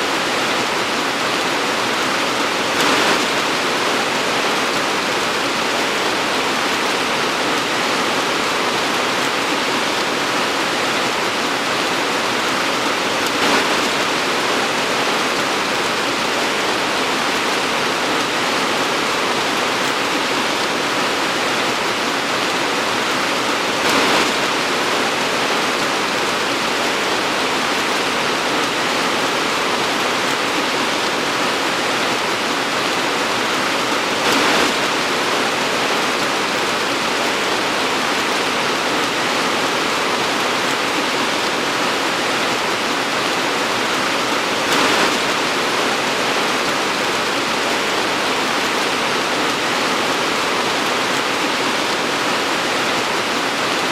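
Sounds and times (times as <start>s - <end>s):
torrential rain pouring: 0.0s - 53.9s.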